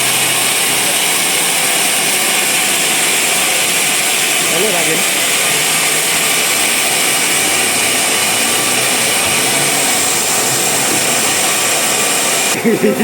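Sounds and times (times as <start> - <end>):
band saw cutting log: 0.0 - 12.6.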